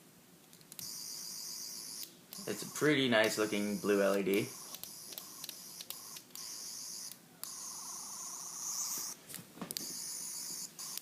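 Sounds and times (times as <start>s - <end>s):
toy electronic warbling whir: 0.8s - 9.2s, 9.8s - 11.0s.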